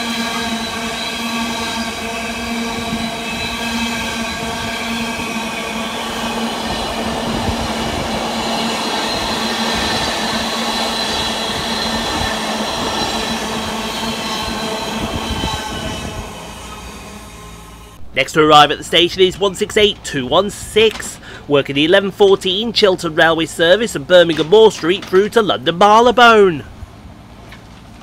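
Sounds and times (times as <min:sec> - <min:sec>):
freight train wheels rumbling on rail: 0:00.0 - 0:28.0.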